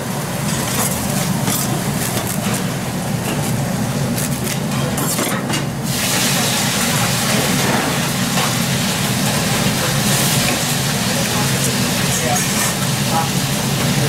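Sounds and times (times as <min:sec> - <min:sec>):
gas burner roar: 0:00.0 - 0:14.0.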